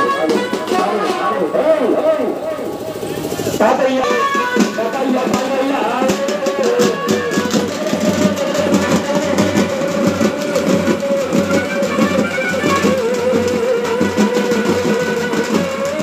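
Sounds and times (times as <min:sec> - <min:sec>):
frame drums beaten with sticks: 0:00.0 - 0:16.0.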